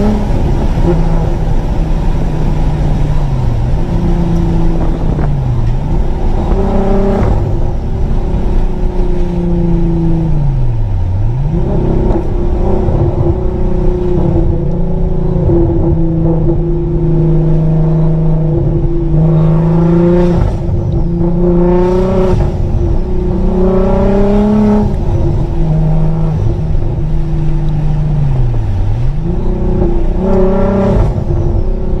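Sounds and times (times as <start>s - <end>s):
car engine heard from inside cabin: 0.0s - 32.0s.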